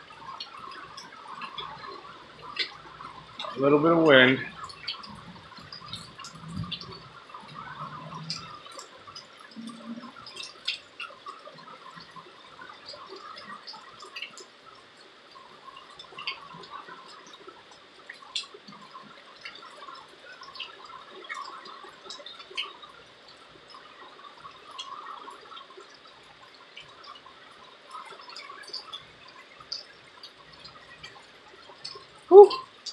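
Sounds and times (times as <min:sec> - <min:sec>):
light rain falling: 0:00.0 - 0:32.9
raindrops tapping and dripping: 0:00.0 - 0:32.9.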